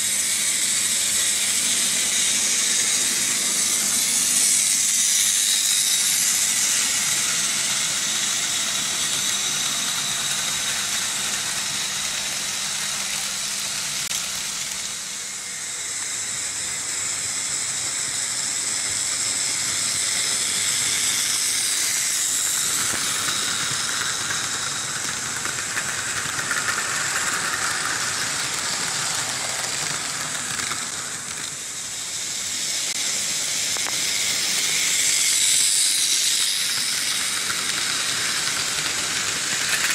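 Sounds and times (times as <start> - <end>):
model train wheels rattling: 0.0 - 39.9.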